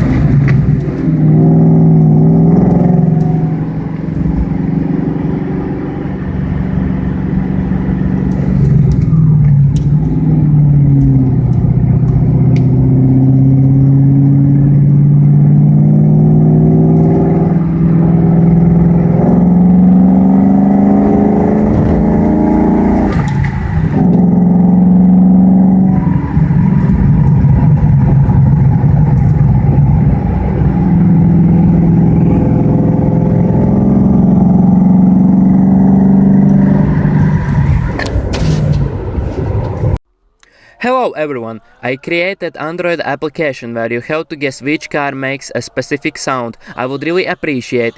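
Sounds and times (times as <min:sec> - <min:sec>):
loud car engine accelerating: 0:00.0 - 0:40.0.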